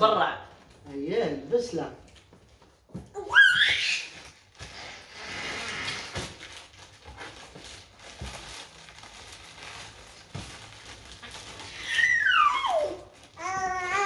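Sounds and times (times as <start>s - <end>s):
plastic bags crinkling: 2.0s - 14.0s.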